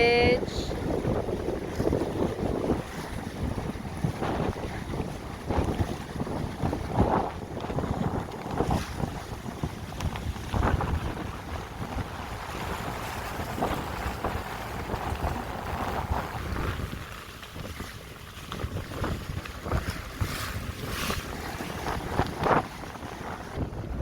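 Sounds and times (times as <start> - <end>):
water rushing past hull: 0.0 - 24.0
wind buffeting microphone: 0.0 - 24.0.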